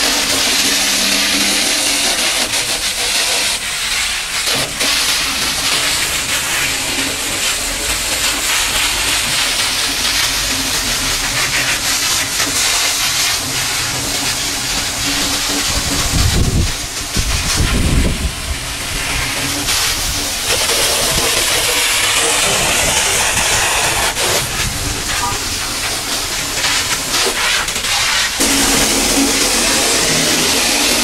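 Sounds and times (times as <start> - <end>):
pressure washer spray hissing: 0.0 - 31.0.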